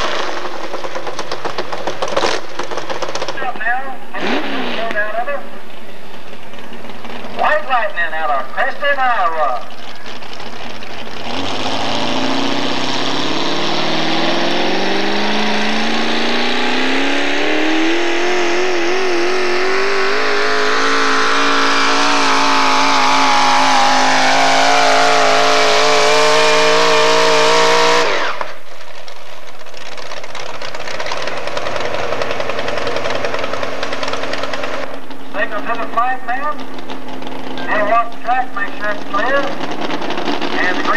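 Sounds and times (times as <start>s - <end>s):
steady engine rumble: 0.0s - 40.9s
truck engine under full throttle: 0.0s - 40.9s.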